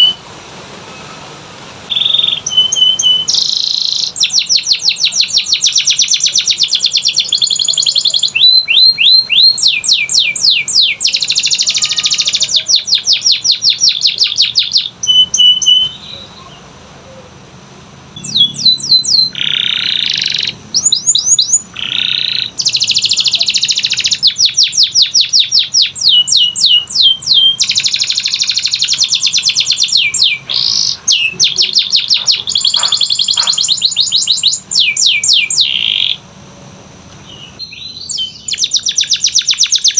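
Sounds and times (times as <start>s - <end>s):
canary singing trills: 0.0s - 0.2s, 0.9s - 17.5s, 18.1s - 36.3s, 37.1s - 39.9s.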